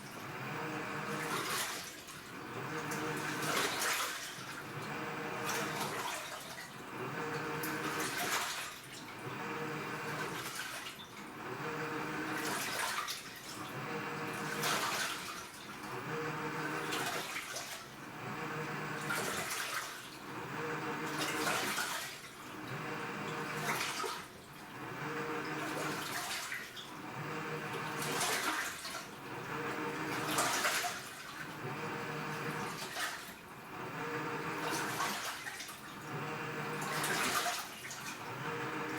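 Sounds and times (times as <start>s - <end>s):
washing machine motor hum: 0.0s - 38.9s
water churning and sloshing: 0.9s - 11.4s, 12.0s - 18.2s, 18.9s - 20.4s, 21.0s - 27.0s, 27.6s - 38.9s.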